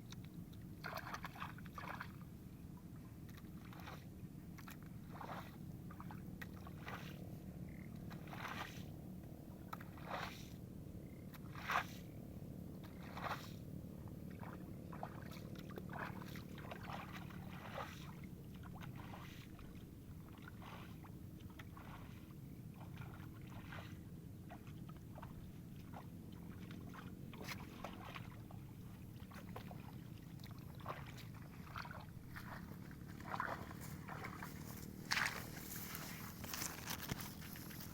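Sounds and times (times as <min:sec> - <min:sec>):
low hum: 0:00.0 - 0:37.9
mud and water sloshing: 0:00.0 - 0:37.9.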